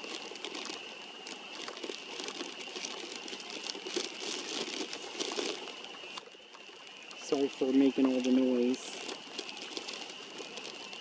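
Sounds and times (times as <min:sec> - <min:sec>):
rustling and crinkling handling: 0:00.0 - 0:11.0.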